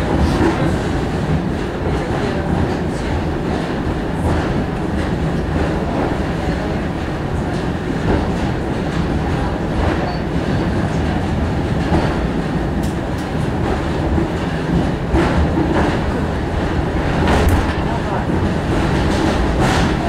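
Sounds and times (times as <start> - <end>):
wheels rumbling on track: 0.0 - 20.0.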